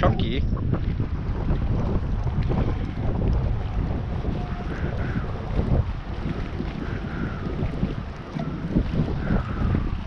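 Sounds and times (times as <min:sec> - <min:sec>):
gusty wind buffeting microphone: 0:00.0 - 0:10.0.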